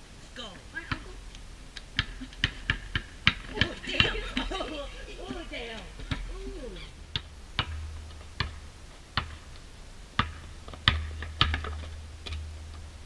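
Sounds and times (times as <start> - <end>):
low steady rumble: 0.0 - 13.0
basketball bouncing on asphalt: 0.8 - 12.9.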